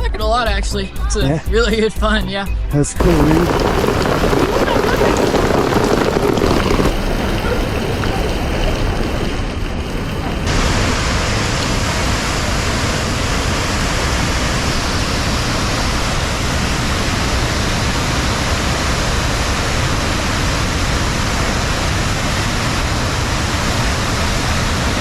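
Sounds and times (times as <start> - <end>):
waterfall roaring: 3.0 - 25.0.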